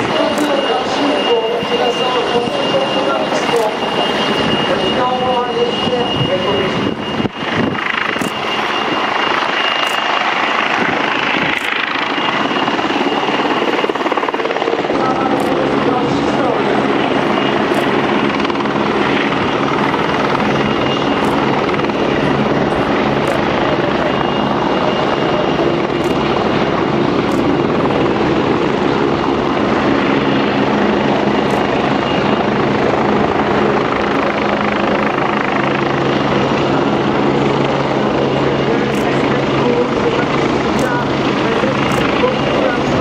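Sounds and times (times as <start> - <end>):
helicopter running: 0.0 - 43.0.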